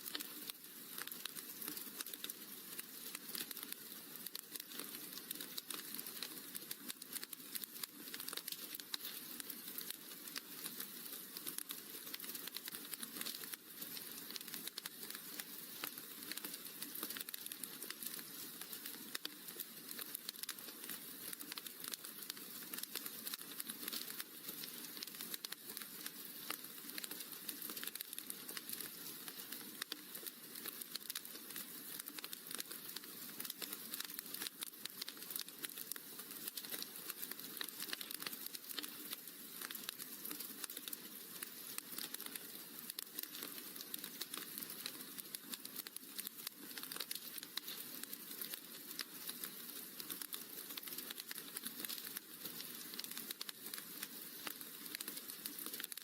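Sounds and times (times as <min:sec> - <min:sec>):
steady hiss: 0:00.0 - 0:56.0
wood fire crackling: 0:00.0 - 0:56.0.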